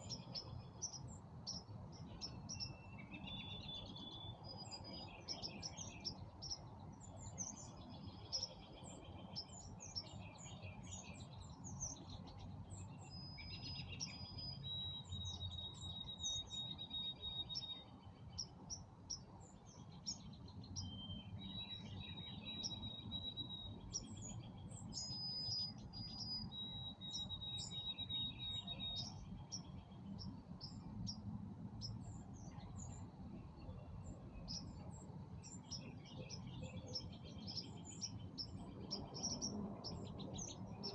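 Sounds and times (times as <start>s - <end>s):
birds chirping and trilling: 0.0s - 31.2s, 31.8s - 40.9s.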